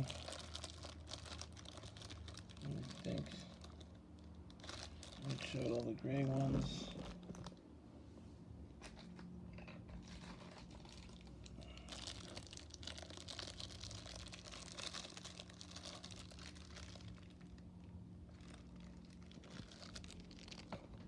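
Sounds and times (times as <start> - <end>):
packaging crinkling and rustling: 0.0 - 7.6, 8.8 - 21.0.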